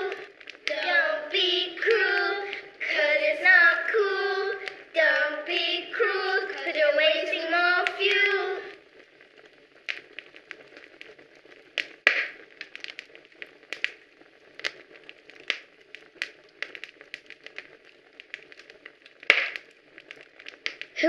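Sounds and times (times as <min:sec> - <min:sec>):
faint steady hiss: 0:00.0 - 0:21.0
soft crackling and clicking: 0:00.0 - 0:21.0.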